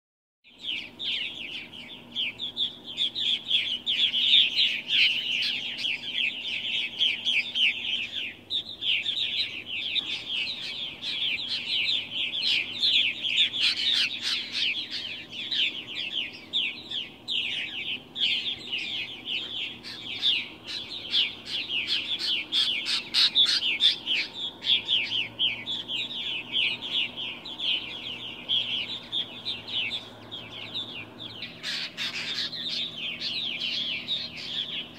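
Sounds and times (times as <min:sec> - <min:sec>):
flock of birds chirping: 0:00.4 - 0:34.9.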